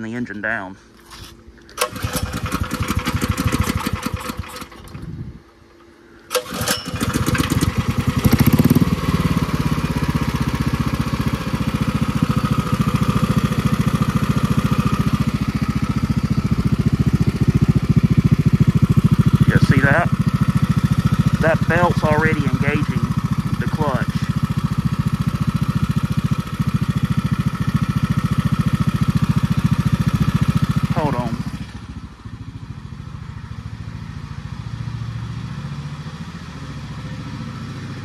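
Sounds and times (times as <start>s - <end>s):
single-cylinder engine running: 1.6s - 38.0s.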